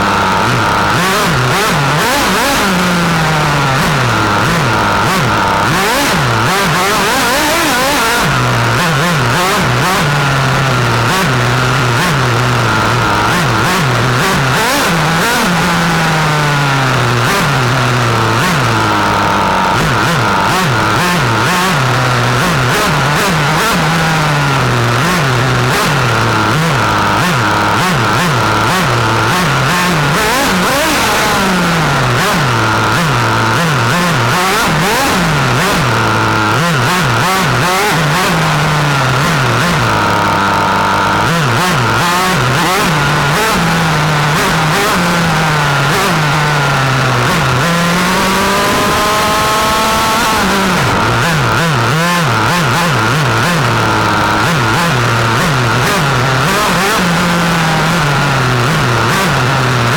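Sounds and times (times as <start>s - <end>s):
model car engine revving: 0.0s - 59.9s.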